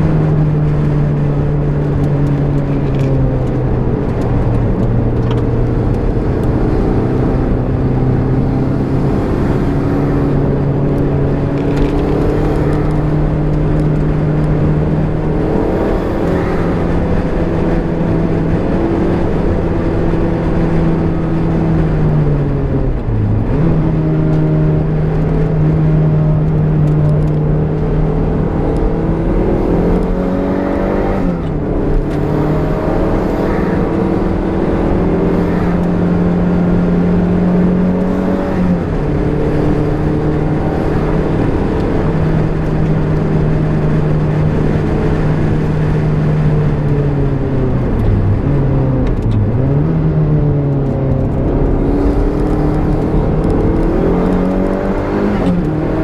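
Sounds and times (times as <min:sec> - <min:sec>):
car engine pulling hard: 0:00.0 - 0:56.0.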